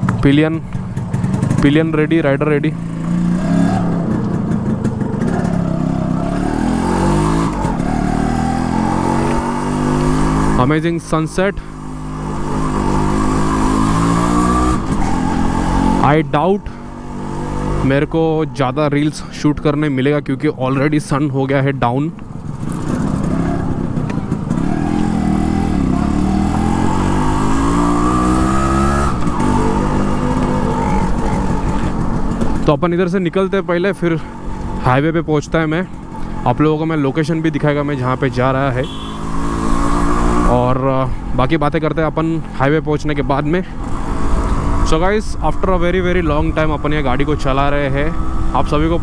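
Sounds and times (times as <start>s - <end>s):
motorcycle engine accelerating: 0.0s - 19.1s, 22.1s - 49.0s.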